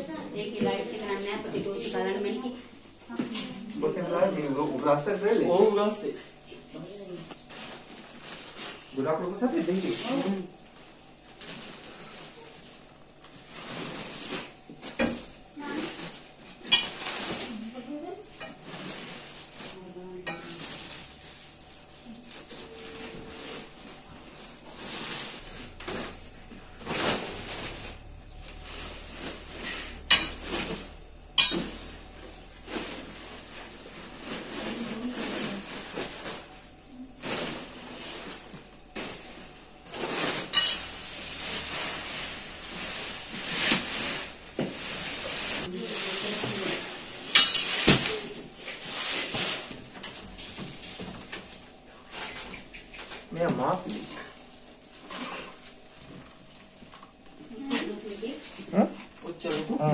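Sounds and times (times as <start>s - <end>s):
plastic sacks rustling: 4.1s - 52.4s.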